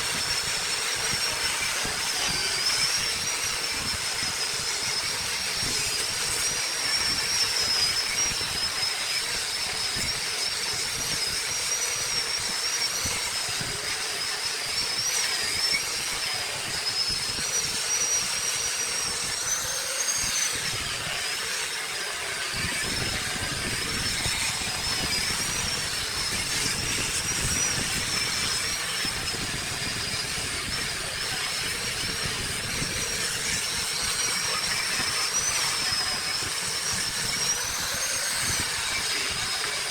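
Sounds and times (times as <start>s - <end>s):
wood lathe whining: 0.0s - 39.9s.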